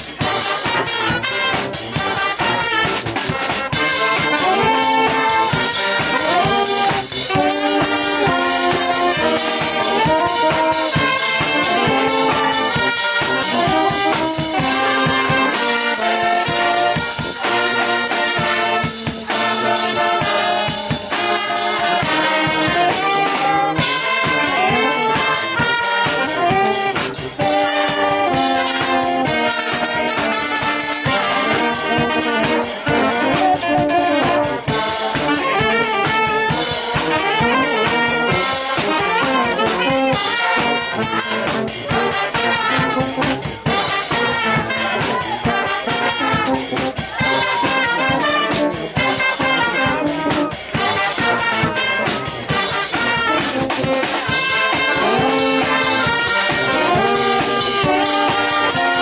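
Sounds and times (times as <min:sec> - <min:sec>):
brass band playing: 0:00.0 - 0:59.0
drum kit beat: 0:00.0 - 0:59.0.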